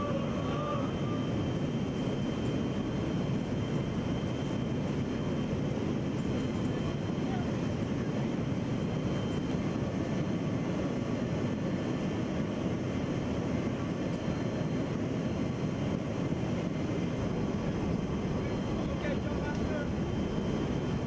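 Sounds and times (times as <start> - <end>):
airplane engine drone from inside: 0.0 - 21.0.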